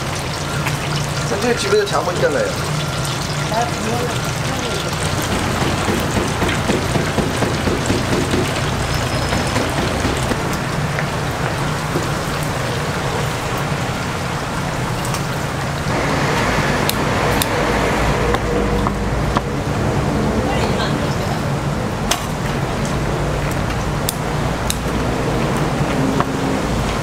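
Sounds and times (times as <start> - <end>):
oil bubbling and sizzling: 0.0 - 20.3, 21.4 - 27.0.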